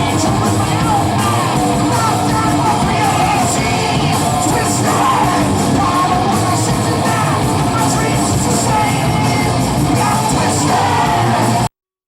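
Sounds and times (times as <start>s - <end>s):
live band playing: 0.0s - 11.7s
person singing: 0.0s - 11.7s.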